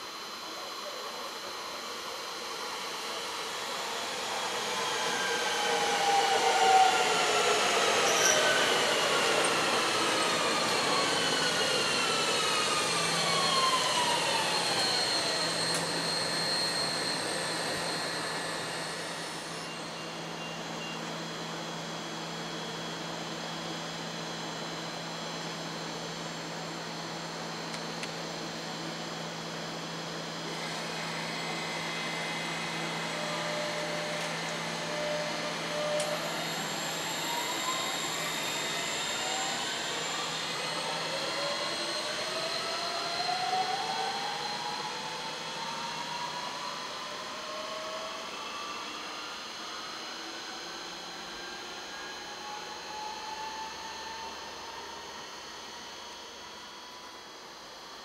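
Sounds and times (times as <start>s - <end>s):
train traction motors whining: 0.0s - 57.8s
train motor whine rising: 0.0s - 58.0s.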